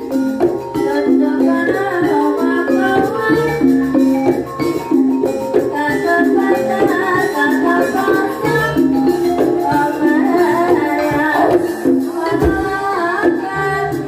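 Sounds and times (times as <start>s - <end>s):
gamelan music: 0.0s - 14.0s
steady drummed beat: 0.0s - 14.0s.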